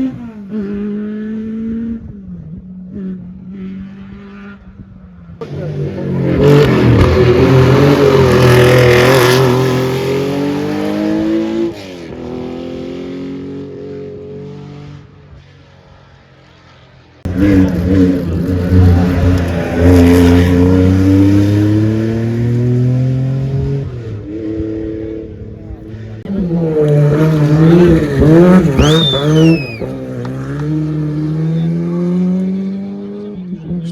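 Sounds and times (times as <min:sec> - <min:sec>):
rally car engine accelerating: 0:00.0 - 0:33.9
second rally car accelerating: 0:00.0 - 0:33.9.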